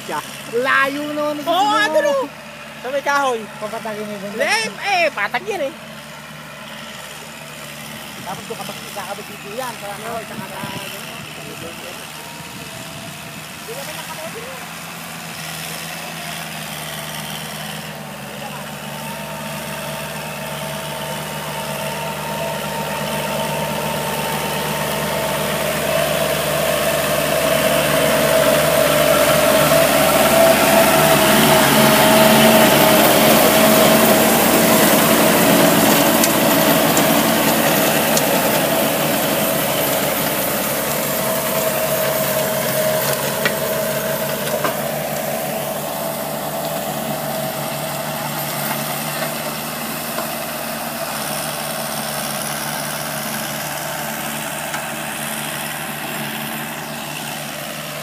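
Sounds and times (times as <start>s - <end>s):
rotary tiller churning ground: 0.0s - 58.0s
tractor diesel engine under load: 0.0s - 58.0s.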